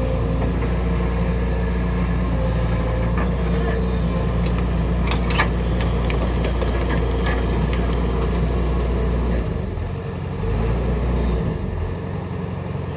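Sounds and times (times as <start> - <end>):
excavator diesel engine running: 0.0 - 12.9.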